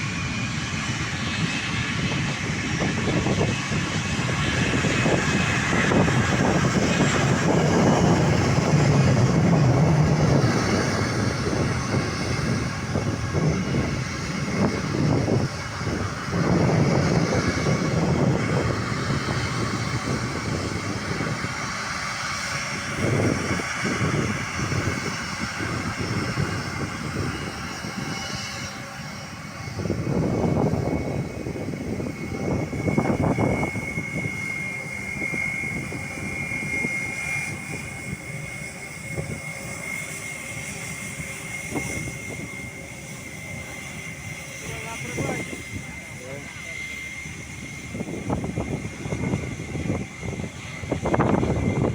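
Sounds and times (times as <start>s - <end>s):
jet airliner engine noise: 0.0s - 51.9s.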